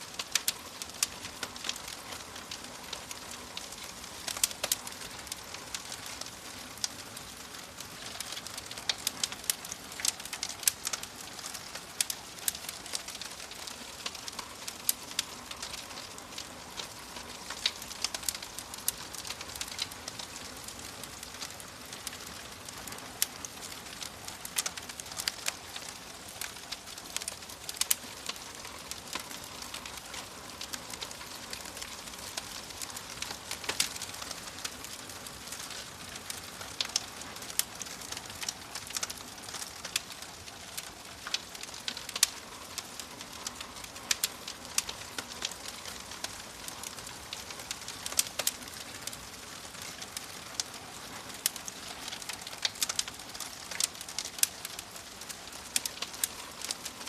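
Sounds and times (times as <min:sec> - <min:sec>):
fire crackling: 0:00.0 - 0:57.0
steady hiss: 0:00.0 - 0:57.0.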